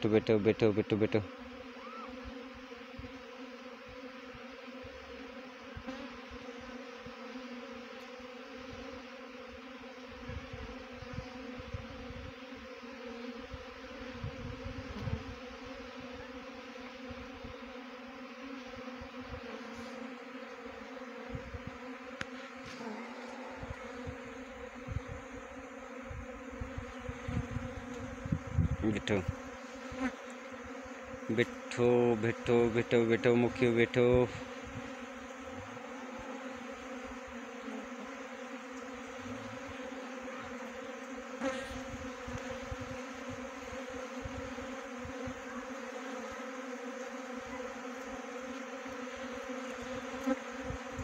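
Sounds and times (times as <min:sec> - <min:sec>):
bees buzzing: 0:00.0 - 0:51.0.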